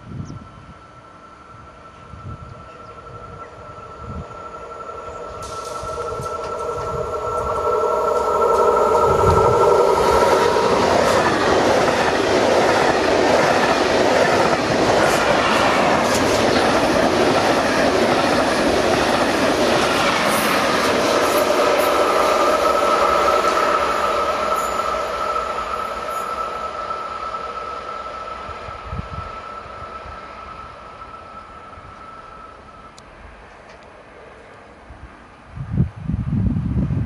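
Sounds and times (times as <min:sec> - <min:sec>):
steady high whine: 0:00.0 - 0:35.1
train wheels roaring on rail: 0:00.0 - 0:37.0.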